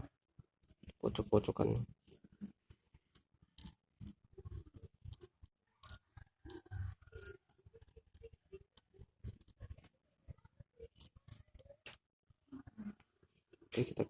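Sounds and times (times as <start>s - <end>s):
small metal clicks and scrapes: 0.6s - 12.1s.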